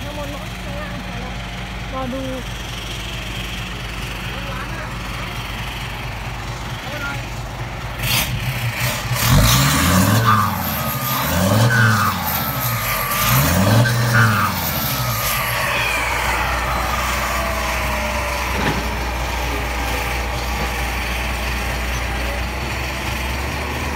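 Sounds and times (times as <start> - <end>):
diesel truck engine revving: 0.0 - 23.9.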